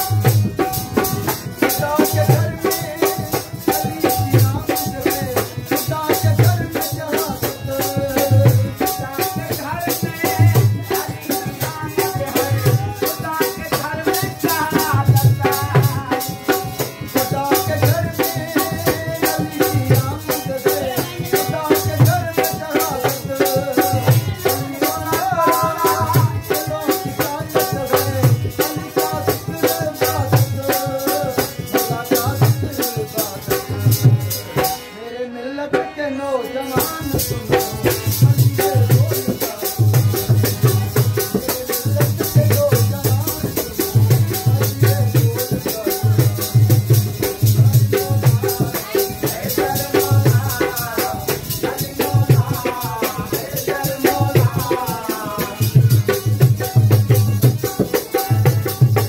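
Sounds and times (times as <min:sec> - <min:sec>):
drum beating: 0:00.0 - 0:34.8, 0:36.6 - 0:59.0
fast rattling percussion: 0:00.0 - 0:34.9, 0:36.6 - 0:59.0
harmonium melody: 0:00.0 - 0:59.0.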